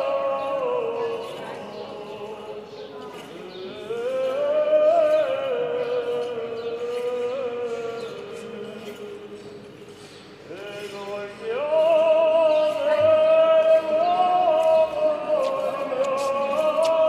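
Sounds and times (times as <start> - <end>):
man chanting a hymn: 0.0 - 9.7, 10.4 - 17.0.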